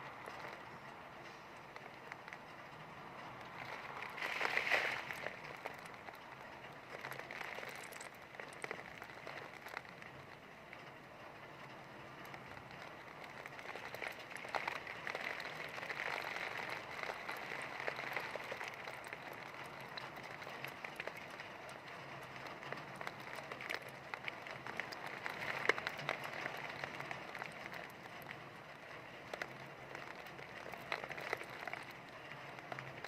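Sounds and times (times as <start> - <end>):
heavy rain: 0.0 - 33.0
raindrop ticks: 0.0 - 33.0.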